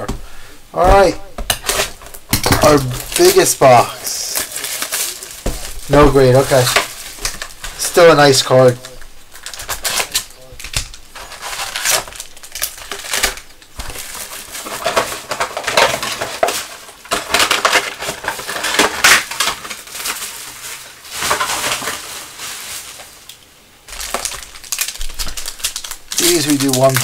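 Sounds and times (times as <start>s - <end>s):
foil wrappers crinkling: 0.0s - 27.0s.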